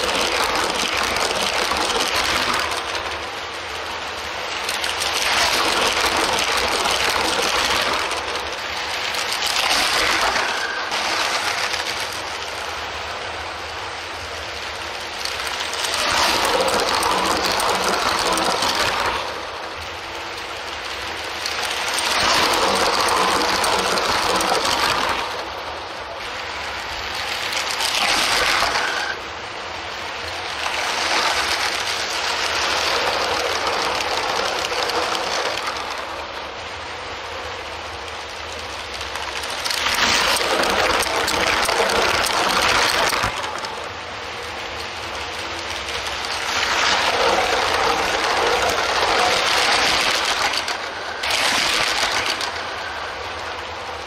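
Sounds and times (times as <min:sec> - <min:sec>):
toy trains whirring clatter: 0:00.0 - 0:54.0.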